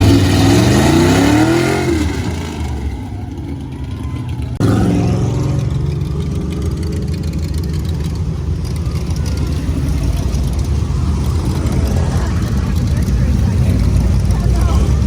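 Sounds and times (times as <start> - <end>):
car engine revving: 0.0 - 15.0
engine running at low revs: 0.0 - 15.0.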